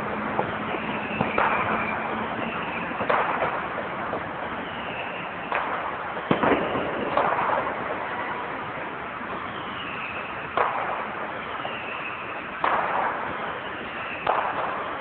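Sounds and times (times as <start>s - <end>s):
firecracker bangs: 0.0s - 15.0s.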